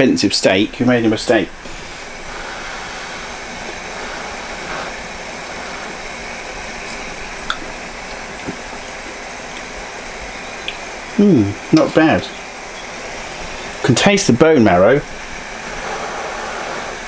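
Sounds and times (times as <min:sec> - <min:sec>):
pans simmering and boiling: 0:00.0 - 0:17.0.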